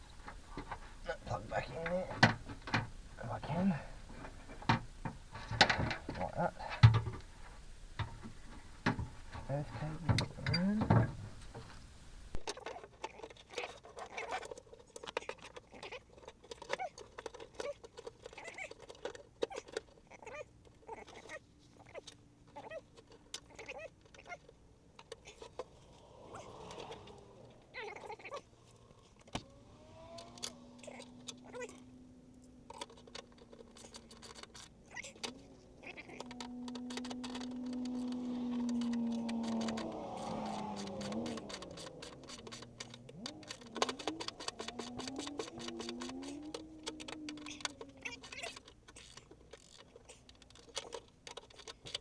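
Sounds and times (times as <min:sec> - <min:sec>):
clicks and rustles of wiring: 0:04.0 - 0:52.0.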